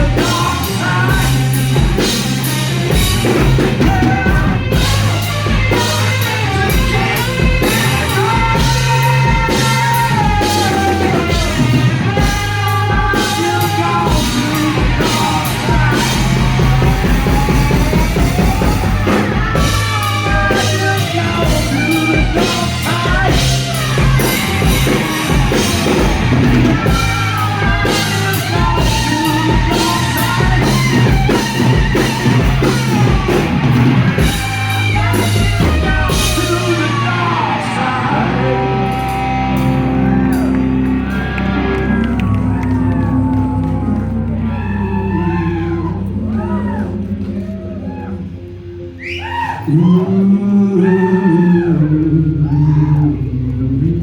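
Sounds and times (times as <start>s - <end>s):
bending sliding guitar lead: 0.0s - 54.0s
live rock band playing: 0.0s - 54.0s.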